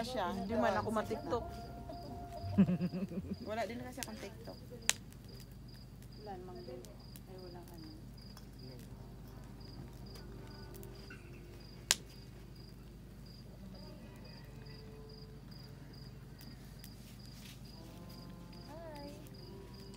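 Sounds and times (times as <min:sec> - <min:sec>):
cricket chirping: 0:00.0 - 0:19.9
faint voices: 0:00.0 - 0:19.9.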